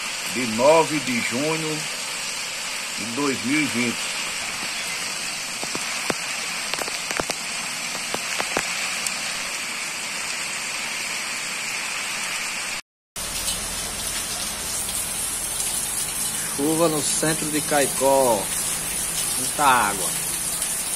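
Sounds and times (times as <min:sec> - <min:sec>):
heavy rain on cobblestones: 0:00.0 - 0:20.9.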